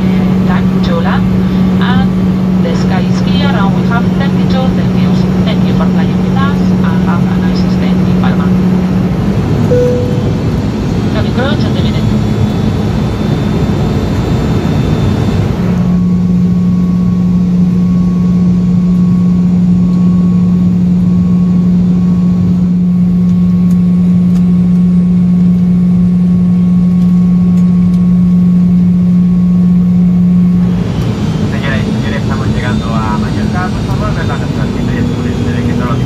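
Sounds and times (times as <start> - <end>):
jet engine cabin drone: 0.0 - 36.0.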